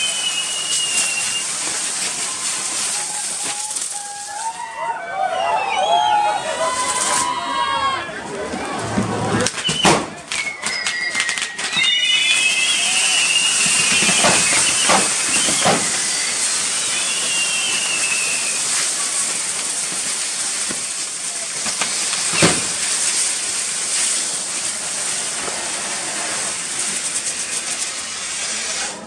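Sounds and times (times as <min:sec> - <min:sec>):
sharp firework pops: 0:00.0 - 0:04.1, 0:09.4 - 0:28.9
fireworks sparks hissing: 0:00.0 - 0:07.6, 0:08.2 - 0:29.0
falling firework whistles: 0:00.0 - 0:07.7, 0:09.3 - 0:29.0.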